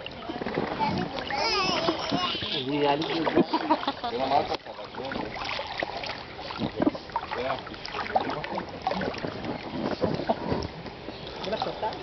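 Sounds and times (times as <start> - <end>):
pool water sloshing and lapping: 0.0 - 12.0
small splashes in water: 0.0 - 12.0.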